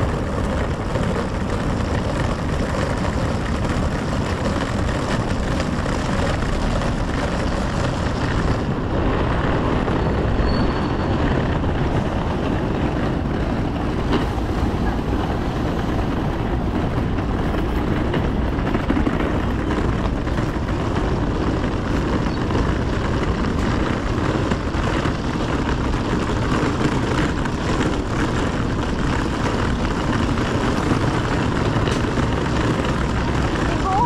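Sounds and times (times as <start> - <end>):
low rumble of road traffic: 0.0 - 34.0.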